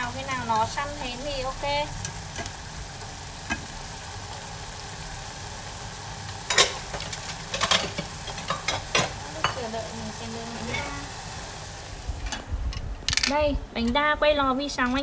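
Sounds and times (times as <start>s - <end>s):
clams sizzling in a pan: 0.0s - 12.3s.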